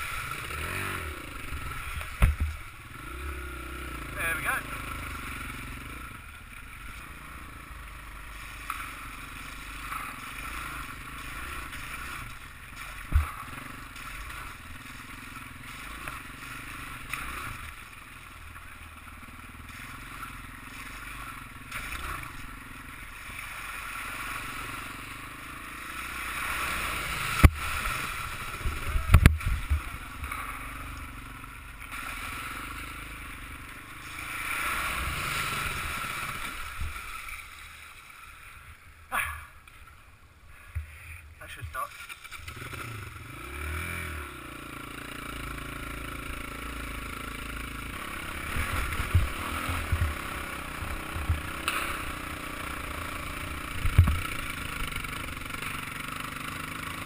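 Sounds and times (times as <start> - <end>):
motorbike engine running: 0.0 - 37.1, 41.9 - 57.0.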